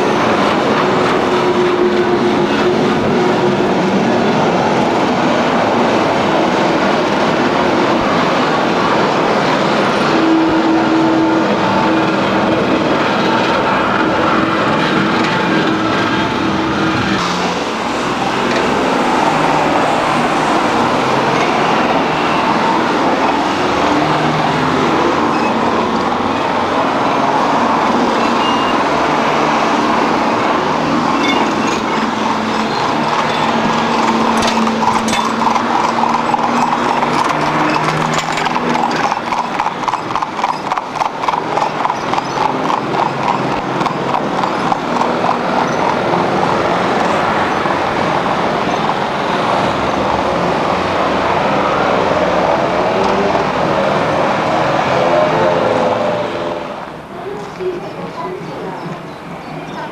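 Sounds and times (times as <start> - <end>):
steady road noise: 0.0 - 59.9
horse hooves clip-clopping on road: 4.8 - 54.9.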